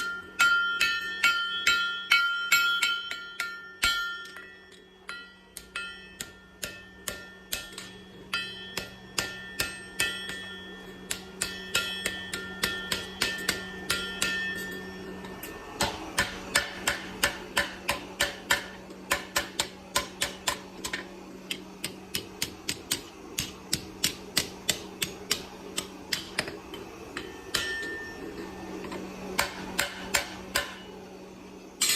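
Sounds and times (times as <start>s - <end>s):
hammer striking metal: 0.0s - 31.1s
steady low hum: 0.0s - 31.9s.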